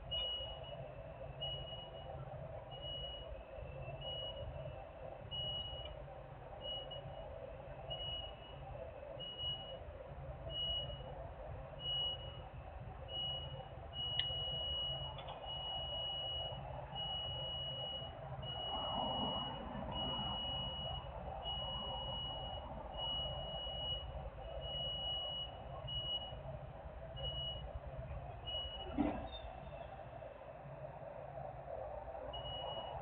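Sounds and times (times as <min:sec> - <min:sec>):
reversing alarm beeping: 0:00.0 - 0:06.0, 0:06.6 - 0:11.2, 0:11.8 - 0:30.5, 0:31.3 - 0:33.0.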